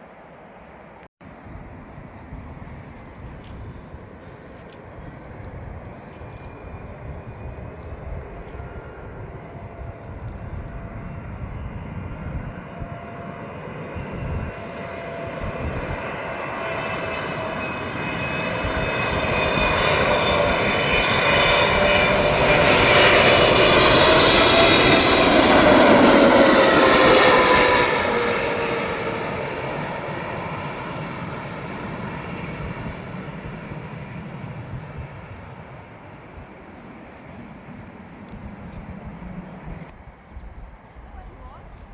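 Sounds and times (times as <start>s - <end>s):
aircraft engines passing: 0.1s - 41.9s.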